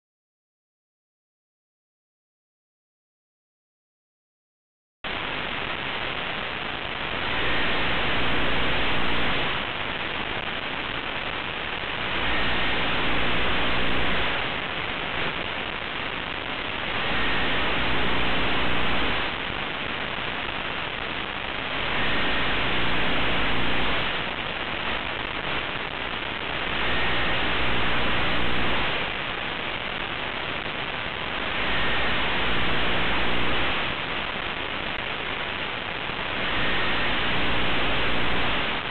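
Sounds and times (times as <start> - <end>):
static-like hiss: 5.0 - 38.9.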